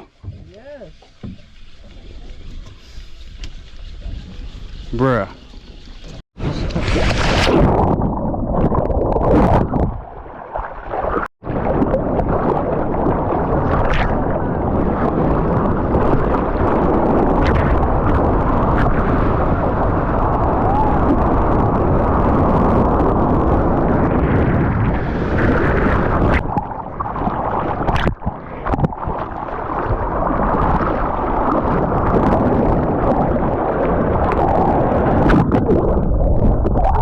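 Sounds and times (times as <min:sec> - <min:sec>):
rushing water: 0:00.0 - 0:37.0
wind buffeting microphone: 0:00.0 - 0:37.0.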